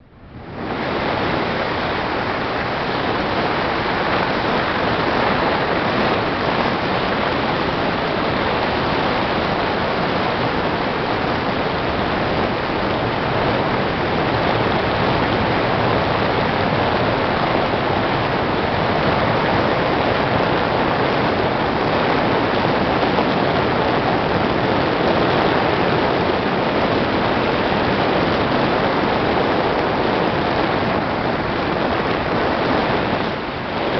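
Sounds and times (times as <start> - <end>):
wind rushing: 0.0 - 33.9
water rushing past boat: 0.3 - 33.9.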